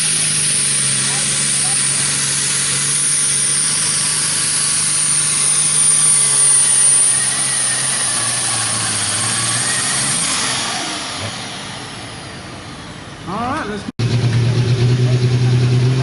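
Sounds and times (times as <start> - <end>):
turbo whine: 0.0 - 13.3
tractor engine at full throttle: 0.0 - 16.0.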